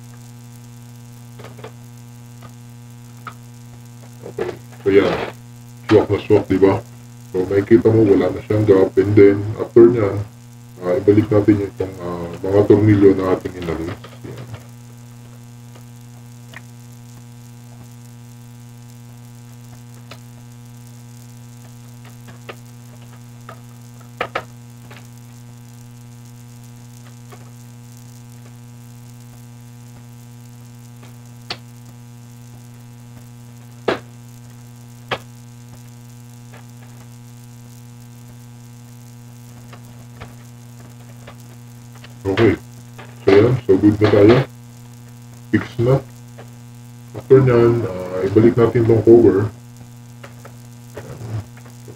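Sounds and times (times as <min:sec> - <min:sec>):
steady electrical hum: 0:00.0 - 0:51.9.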